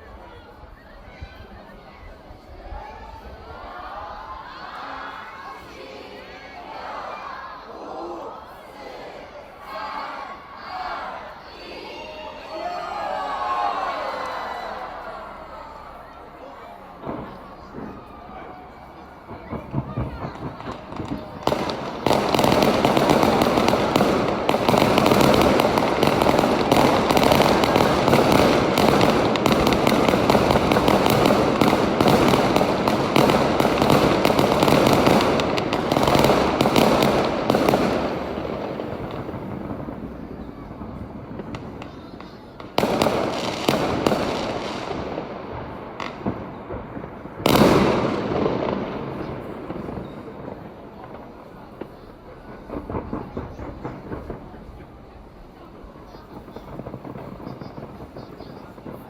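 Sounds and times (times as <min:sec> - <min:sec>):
fireworks crackling bangs: 0:09.3 - 0:59.0
loud firework bursts: 0:09.4 - 0:59.0.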